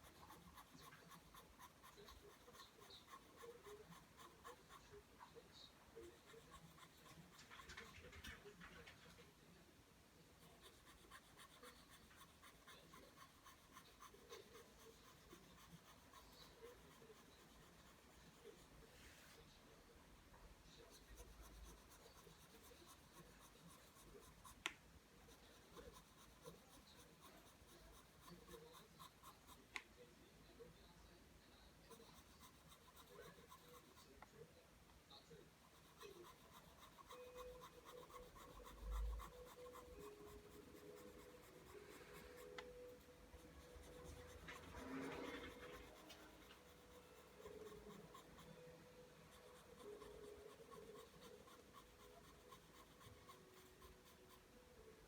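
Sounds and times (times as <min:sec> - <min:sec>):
pencil scratching on paper: 0:00.0 - 0:09.3, 0:10.4 - 0:19.5, 0:20.8 - 0:29.8, 0:31.8 - 0:34.4, 0:35.6 - 0:55.0.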